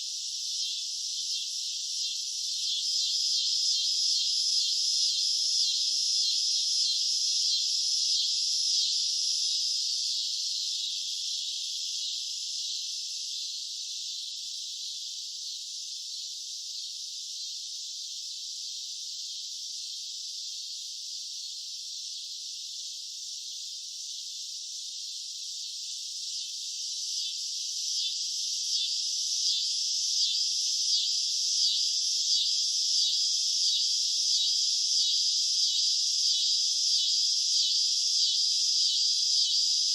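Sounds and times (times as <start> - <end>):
cicadas buzzing chorus: 0.0 - 39.9.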